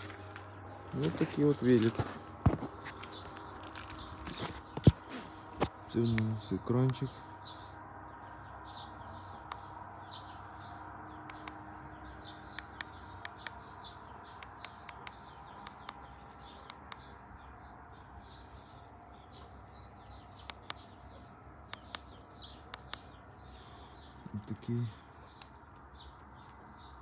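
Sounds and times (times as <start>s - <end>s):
low background hum: 0.0s - 27.0s
small birds chirping: 0.0s - 27.0s.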